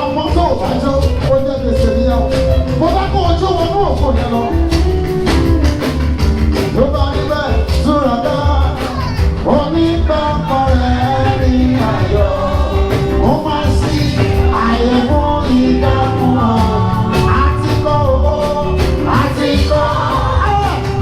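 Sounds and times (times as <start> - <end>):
heavy bass line: 0.0 - 21.0
live gospel band with singing: 0.0 - 21.0
steady drumming: 0.0 - 21.0.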